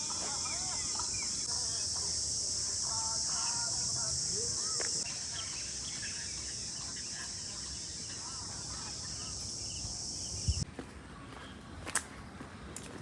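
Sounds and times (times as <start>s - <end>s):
high-pitched insect chorus: 0.0s - 10.6s.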